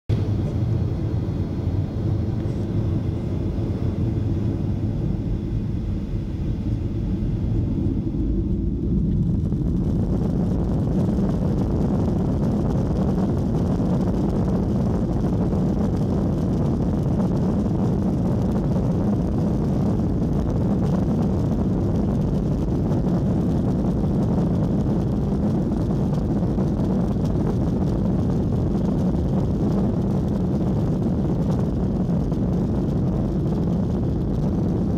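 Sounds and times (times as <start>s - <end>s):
jet engines heard from cabin: 0.1s - 34.9s.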